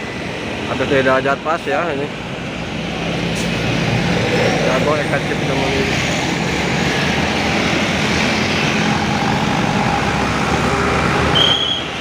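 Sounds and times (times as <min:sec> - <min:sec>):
bus engine and tyres running: 0:00.0 - 0:12.0.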